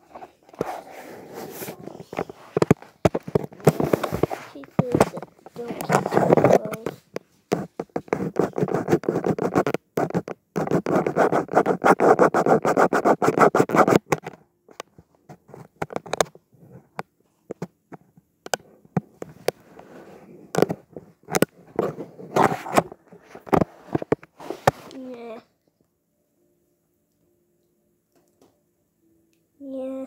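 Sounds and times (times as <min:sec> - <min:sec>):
scratching and rustling: 0:00.0 - 0:25.2.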